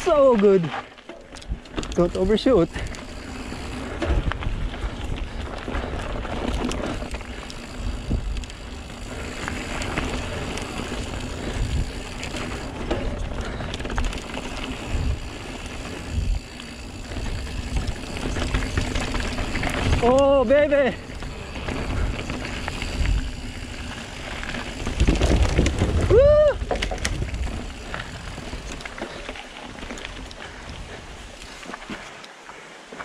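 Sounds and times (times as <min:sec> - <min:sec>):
bike rattling over bumps: 0:00.0 - 0:33.0
bike tyres on dirt: 0:00.0 - 0:33.0
wind noise on microphone: 0:01.4 - 0:29.1.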